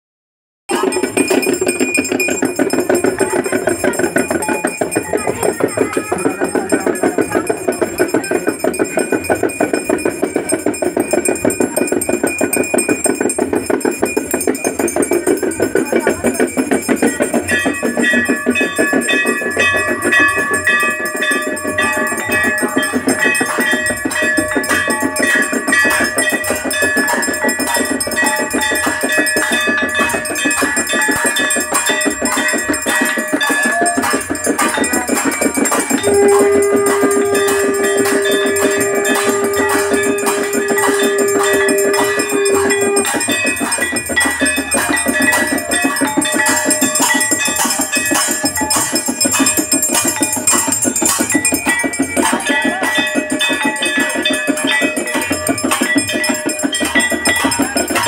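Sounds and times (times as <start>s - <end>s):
bells ringing: 0.7s - 58.0s
drums struck in fast rhythm: 0.7s - 58.0s.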